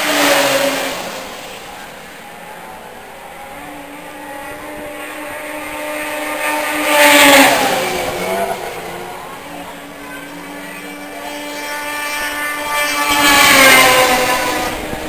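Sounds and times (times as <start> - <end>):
snowmobile engines passing: 0.0 - 15.0.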